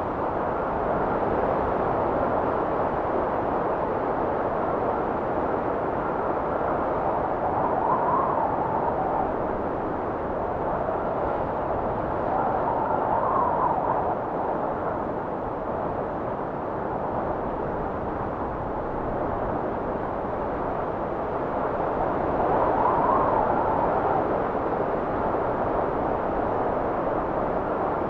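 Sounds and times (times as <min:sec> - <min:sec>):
blizzard wind blowing: 0:00.0 - 0:28.0.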